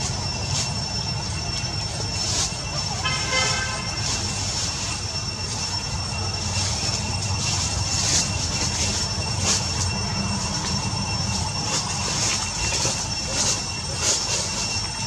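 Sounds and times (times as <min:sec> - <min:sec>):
thin continuous high whine: 0:00.0 - 0:15.0.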